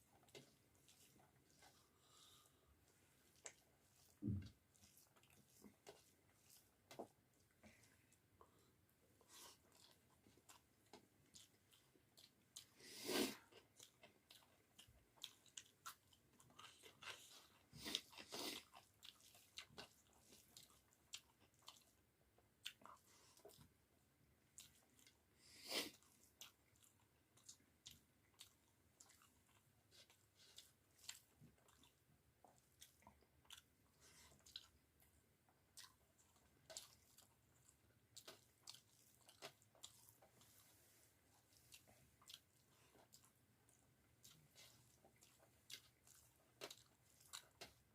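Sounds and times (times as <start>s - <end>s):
chewing with wet mouth clicks: 0.2s - 8.6s, 9.2s - 12.8s, 13.4s - 23.8s, 24.4s - 25.2s, 25.8s - 47.9s.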